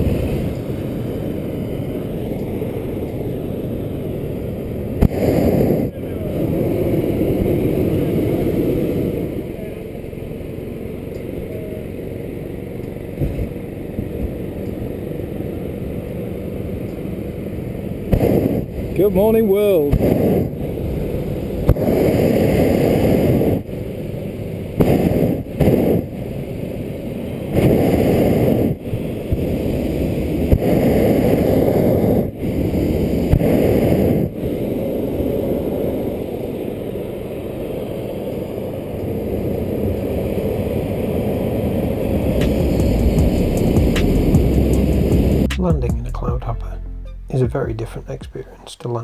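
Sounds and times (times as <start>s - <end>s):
propane burner blasts: 0.0s - 45.6s
steady quiet rushing: 0.0s - 45.9s.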